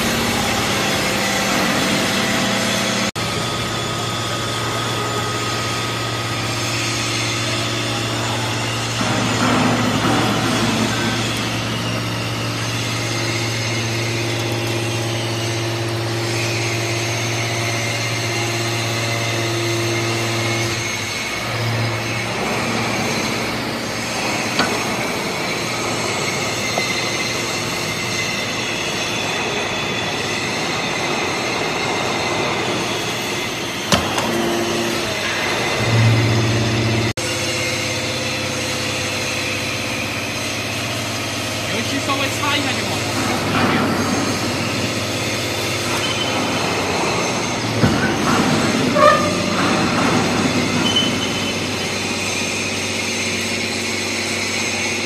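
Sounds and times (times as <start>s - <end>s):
hydraulic baler motor hum: 0.0s - 55.0s
hydraulic pump whine: 0.0s - 55.0s.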